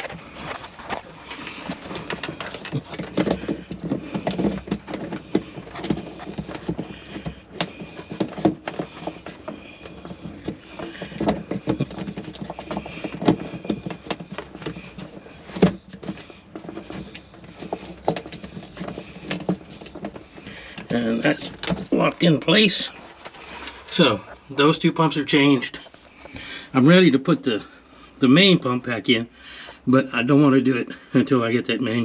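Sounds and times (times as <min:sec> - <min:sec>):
knocks clicks and scraping: 0:00.0 - 0:27.2.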